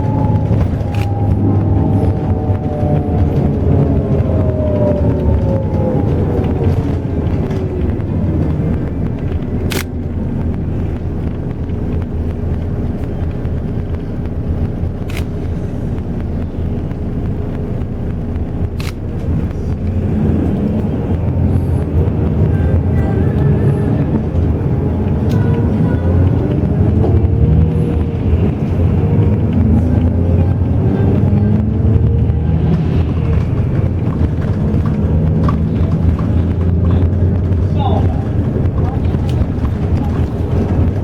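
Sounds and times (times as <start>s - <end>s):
bus engine and road noise: 0.0s - 41.0s.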